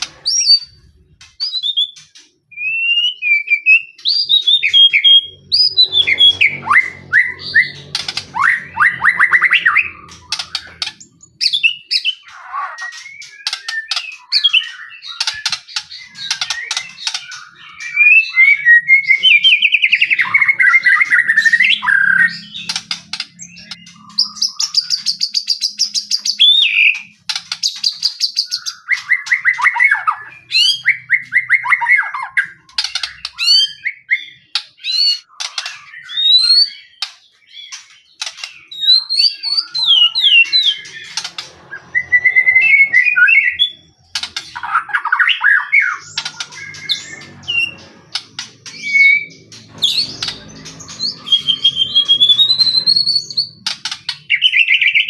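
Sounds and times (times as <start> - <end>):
songbird singing trills and whistles: 0.0 - 55.0.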